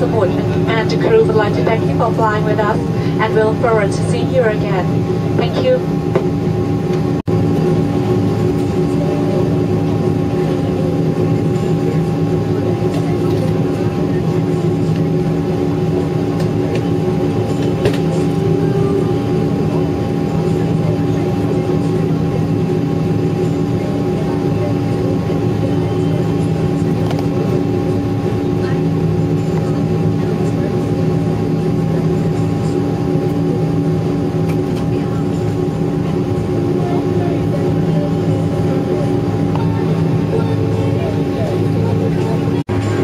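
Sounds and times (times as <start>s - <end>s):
airliner cabin engine drone: 0.0s - 43.0s.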